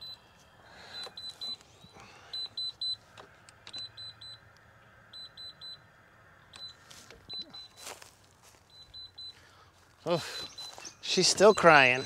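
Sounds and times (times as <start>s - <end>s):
mower warning beeps: 0.0s - 5.9s, 6.5s - 12.0s.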